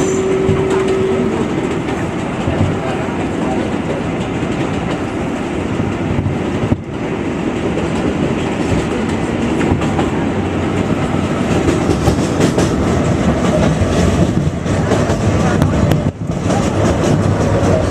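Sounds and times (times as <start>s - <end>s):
subway train wheels on rail: 0.0s - 17.9s.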